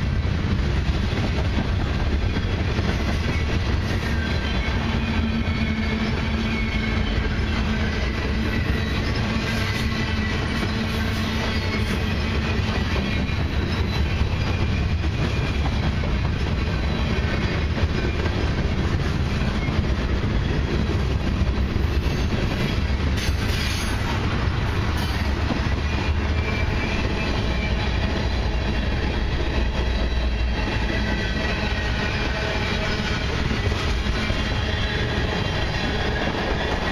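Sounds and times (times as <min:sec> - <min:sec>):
train wheels on rails: 0:00.0 - 0:36.9.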